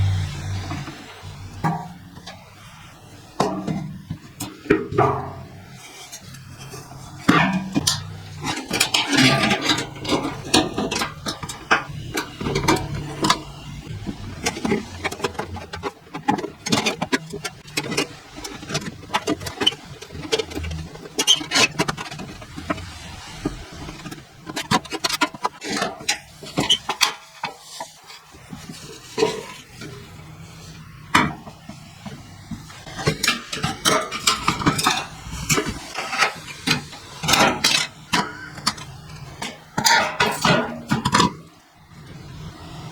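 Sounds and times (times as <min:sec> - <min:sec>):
tin can metal clinking and scraping: 0:03.4 - 0:30.1, 0:31.1 - 0:41.6.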